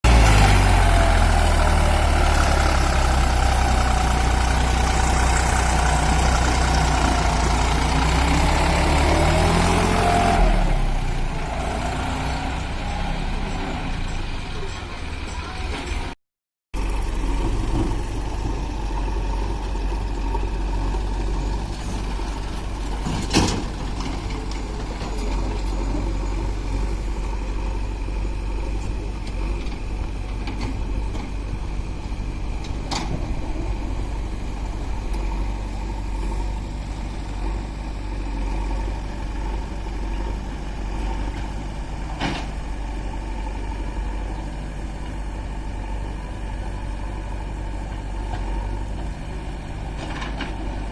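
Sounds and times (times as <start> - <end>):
diesel engine running: 0.0 - 16.2, 16.8 - 50.9.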